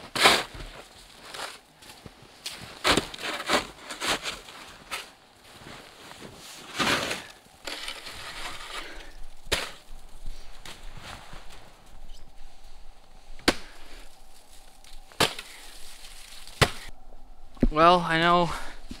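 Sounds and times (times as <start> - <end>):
snow crunching and scraping: 0.0 - 16.9.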